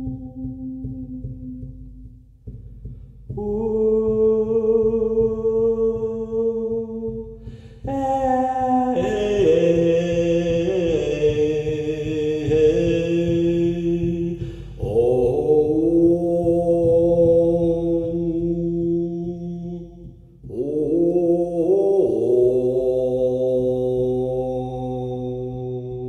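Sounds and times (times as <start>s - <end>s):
low frame drum beats: 0.0s - 26.0s
man chanting: 3.4s - 26.0s.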